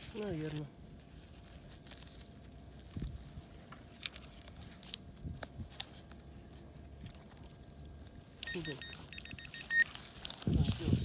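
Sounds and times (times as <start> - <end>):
soil rustling: 0.0 - 11.0.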